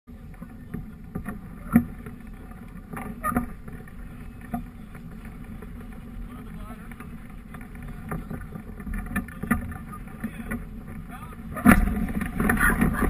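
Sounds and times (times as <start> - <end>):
wind buffeting microphone: 0.1 - 13.0.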